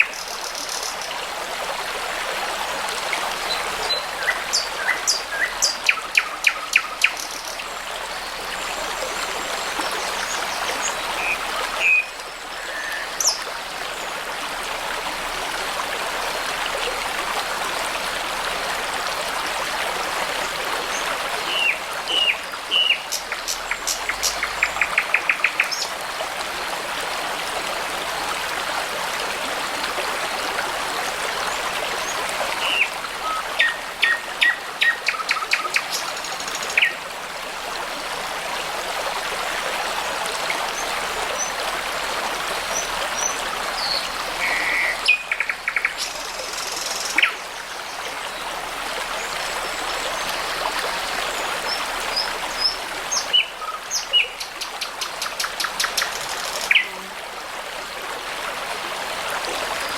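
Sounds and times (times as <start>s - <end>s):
babbling brook: 0.0s - 59.9s.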